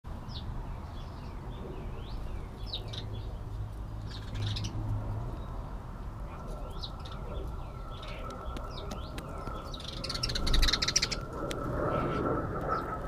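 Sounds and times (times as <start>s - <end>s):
birds chirping: 0.1s - 13.0s
steady low hum: 0.1s - 13.0s.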